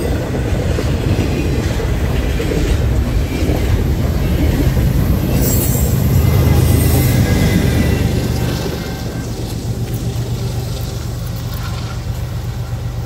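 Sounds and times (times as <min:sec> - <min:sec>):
diesel locomotive engine: 0:00.0 - 0:13.0
freight train wheels clattering: 0:00.0 - 0:13.0.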